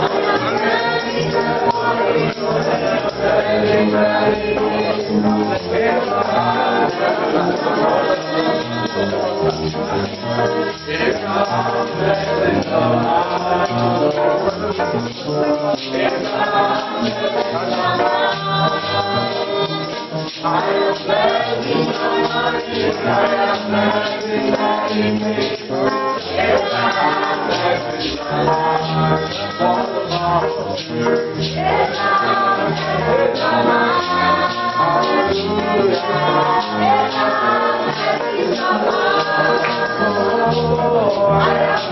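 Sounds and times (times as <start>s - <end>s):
choir singing gospel: 0.0s - 41.9s
tambourine: 0.0s - 41.9s.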